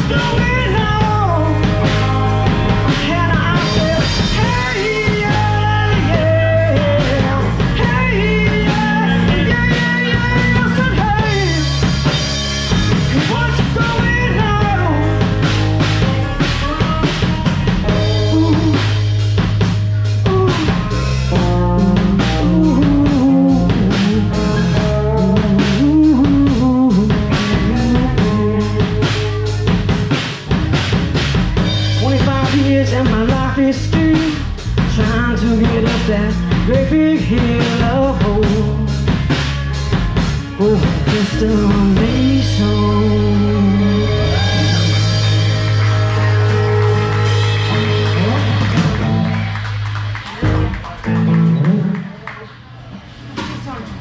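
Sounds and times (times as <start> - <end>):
person singing: 0.0 - 12.2, 12.9 - 19.2, 20.0 - 30.5, 31.9 - 39.4, 40.2 - 49.2
drum kit: 0.0 - 52.5
electric guitars and bass: 0.0 - 54.0.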